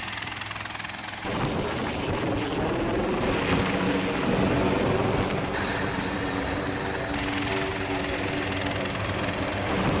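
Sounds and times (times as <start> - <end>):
aircraft rotors whirring: 0.0 - 10.0.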